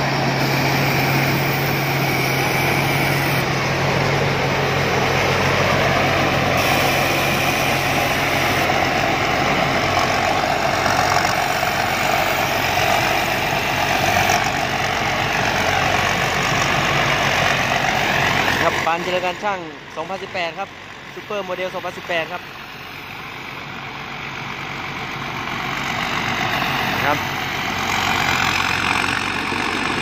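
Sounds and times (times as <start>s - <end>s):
combine harvester engine running: 0.0s - 30.0s.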